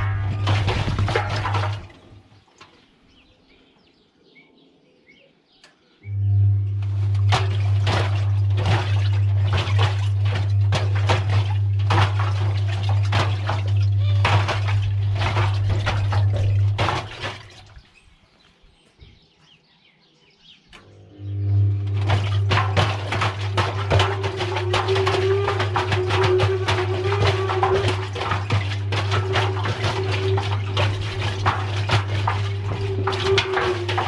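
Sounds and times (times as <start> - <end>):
washing machine motor hum: 0.0 - 2.6, 6.0 - 18.0, 20.8 - 34.0.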